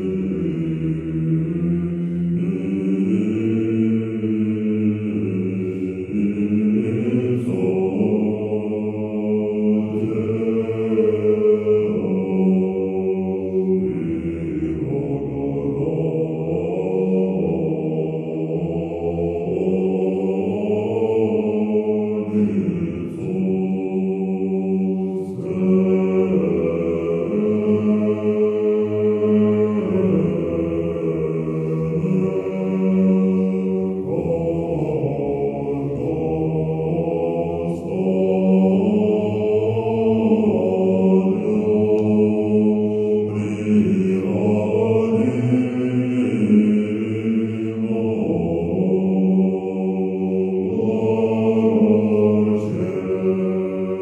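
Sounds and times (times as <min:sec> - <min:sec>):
slow chant-like singing: 0:00.0 - 0:54.0.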